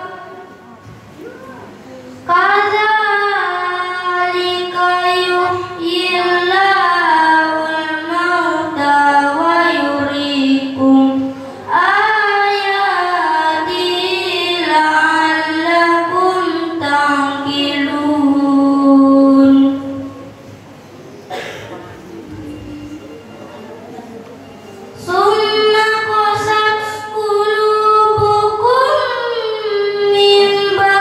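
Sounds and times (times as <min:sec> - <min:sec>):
boy reciting into a microphone: 0:00.0 - 0:20.6, 0:21.3 - 0:31.0.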